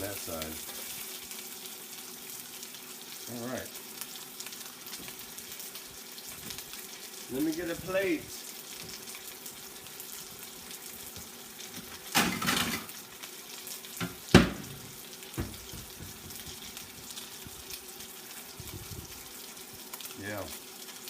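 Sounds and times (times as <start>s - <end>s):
chicken sizzling in a frying pan: 0.0s - 21.0s.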